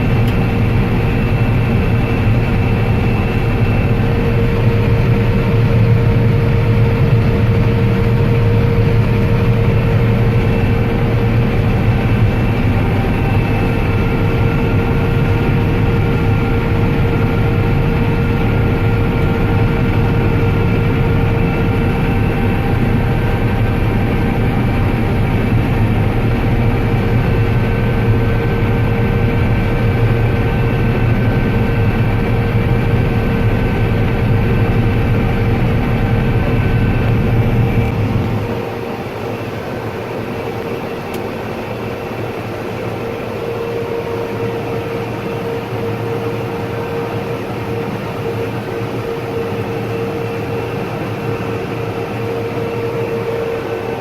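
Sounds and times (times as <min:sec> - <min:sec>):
combine harvester engine droning: 0:00.0 - 0:54.0
steady machine whine: 0:00.0 - 0:54.0.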